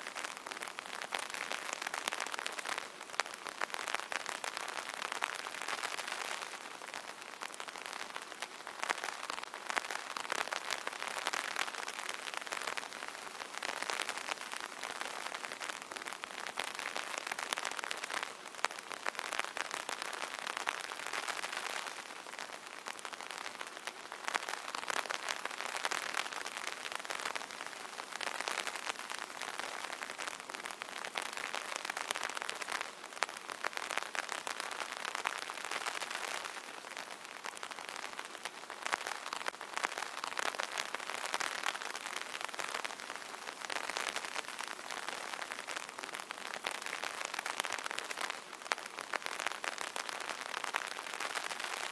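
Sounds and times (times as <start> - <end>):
rain on an umbrella: 0.0 - 51.9.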